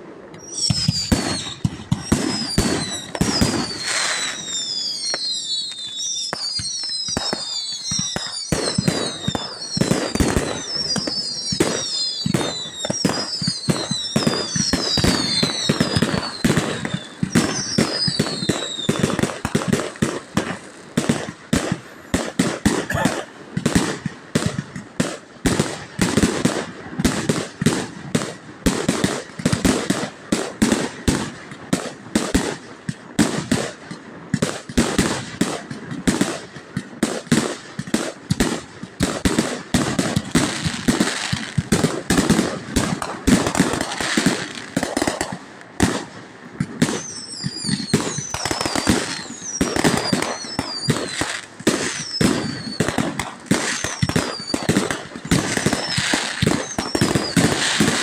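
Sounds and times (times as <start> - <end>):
fireworks bangs and crackles: 0.0 - 58.0
whistling fireworks: 0.0 - 58.0.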